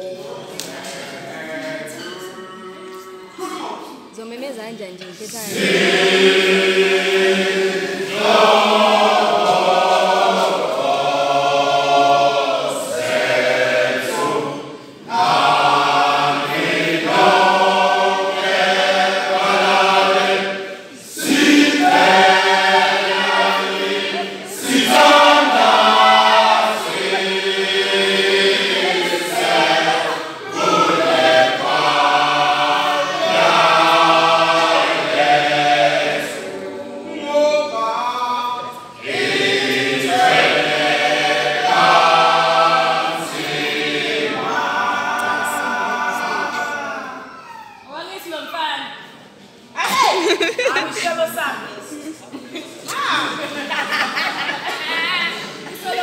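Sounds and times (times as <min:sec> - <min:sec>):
male choir singing a cappella: 0:00.0 - 0:03.9, 0:05.3 - 0:47.3.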